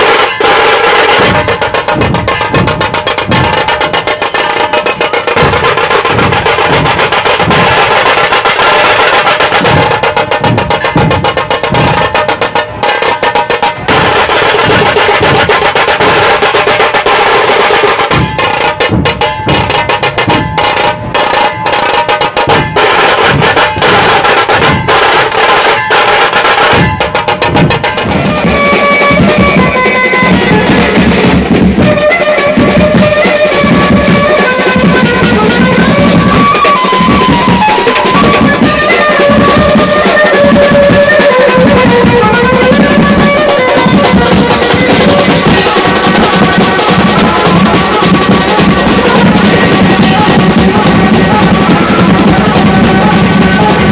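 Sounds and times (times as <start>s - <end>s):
bass drum beats: 0.0s - 53.9s
fast snare drumming: 0.0s - 53.9s
pitched melody: 0.0s - 53.9s.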